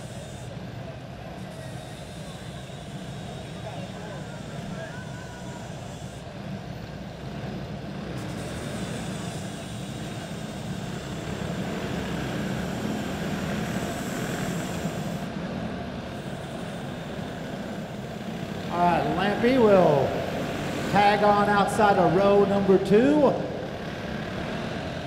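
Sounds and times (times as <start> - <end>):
go-kart engines droning: 0.0 - 25.0.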